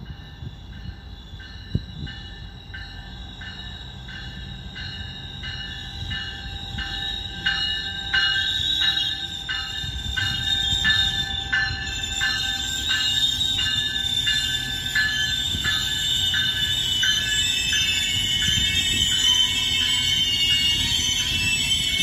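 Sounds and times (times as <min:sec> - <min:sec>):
high-pitched pulsing ringing tones: 0:00.0 - 0:22.0
train rumbling: 0:00.0 - 0:22.0.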